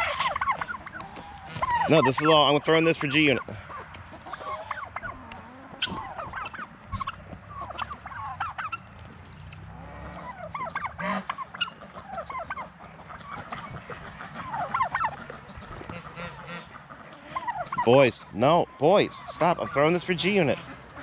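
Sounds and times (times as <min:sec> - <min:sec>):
poultry flock calling: 0:00.0 - 0:21.0.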